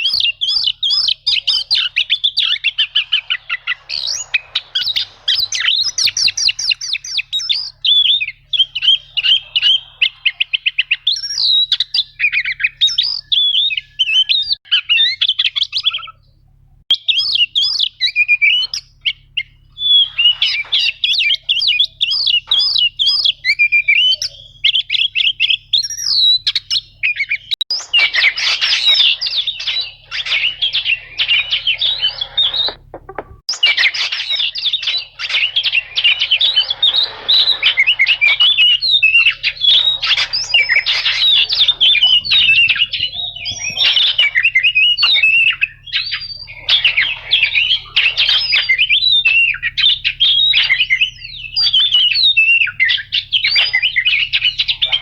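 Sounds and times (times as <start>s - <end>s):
bird singing chirps and trills: 0.0s - 16.2s, 16.9s - 55.0s.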